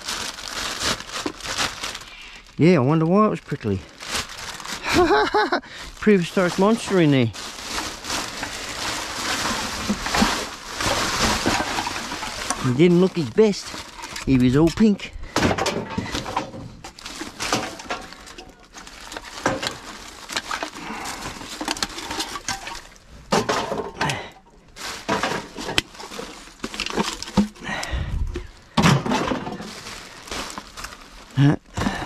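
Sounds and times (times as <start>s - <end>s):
plastic garbage bags rustling: 0.0s - 32.0s
cans and bottles clattering: 5.8s - 32.0s.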